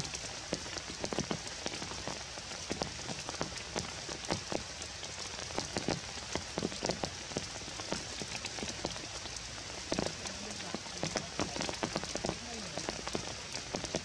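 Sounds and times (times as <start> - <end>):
rain hissing in forest: 0.0 - 14.0
raindrops tapping: 0.0 - 14.0.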